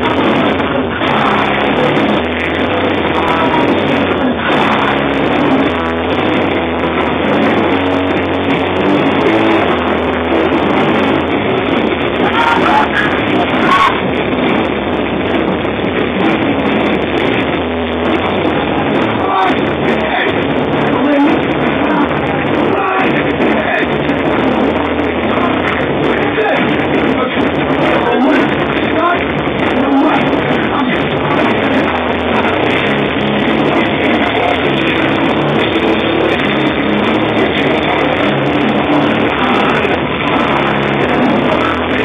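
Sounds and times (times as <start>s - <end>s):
drum kit played hard: 0.0s - 42.0s
loud rock music: 0.0s - 42.0s.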